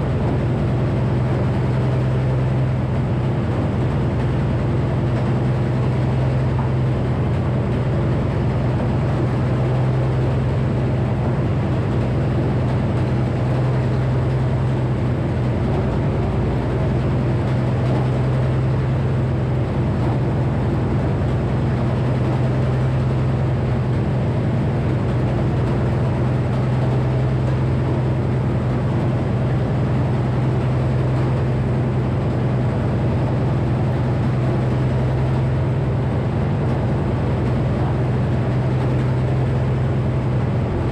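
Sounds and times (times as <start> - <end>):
sawmill power unit humming: 0.0 - 40.9.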